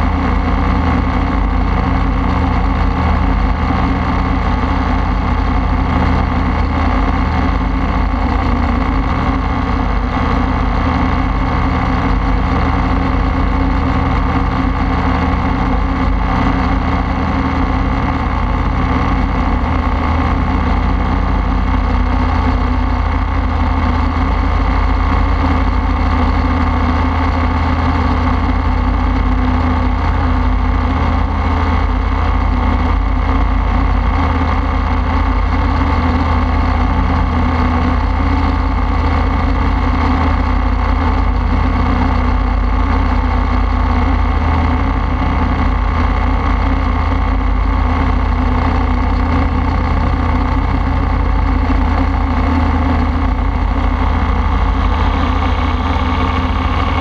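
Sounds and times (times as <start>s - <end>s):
aircraft engine and propeller: 0.0s - 57.0s.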